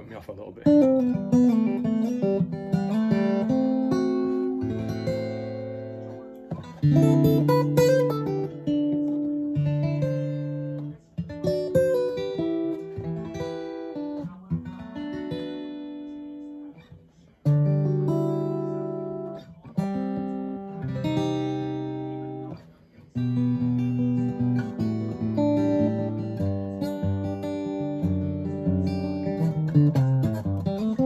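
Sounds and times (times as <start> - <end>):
fingerstyle acoustic guitar: 0.0 - 31.0.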